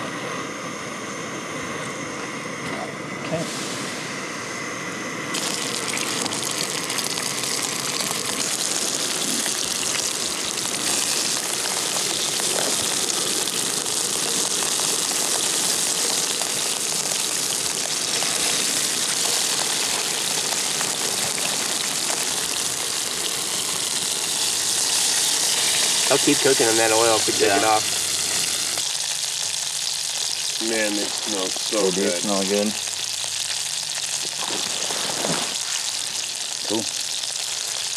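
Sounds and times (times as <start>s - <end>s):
meat sizzling in hot oil: 5.3s - 37.9s.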